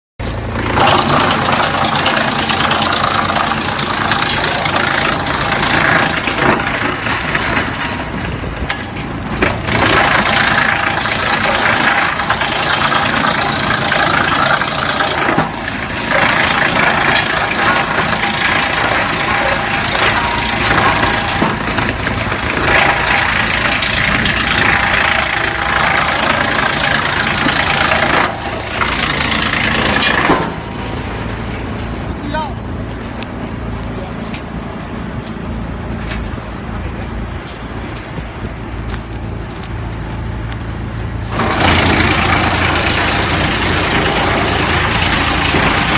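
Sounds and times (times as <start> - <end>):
machine hum: 0.2 - 45.9
wood chipper grinding: 0.2 - 45.9.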